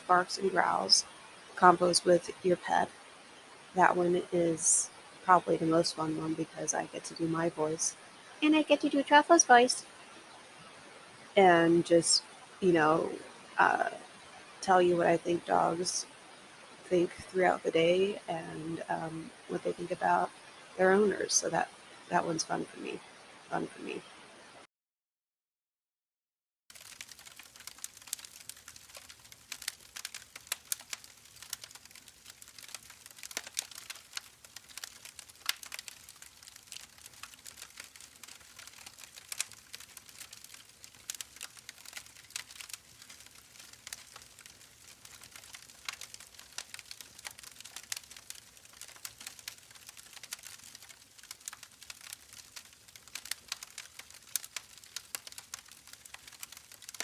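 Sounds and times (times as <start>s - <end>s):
campfire crackling: 0.0s - 22.5s, 26.7s - 57.0s.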